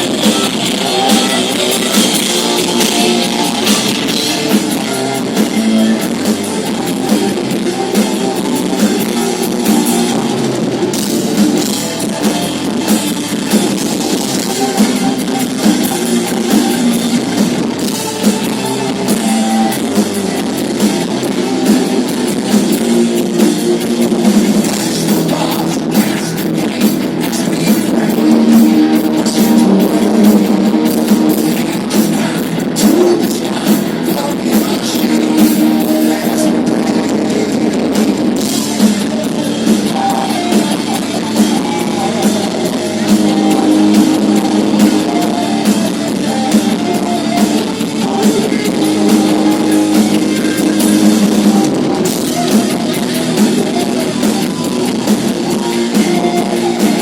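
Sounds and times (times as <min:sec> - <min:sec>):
live hard rock band: 0:00.0 - 0:57.0.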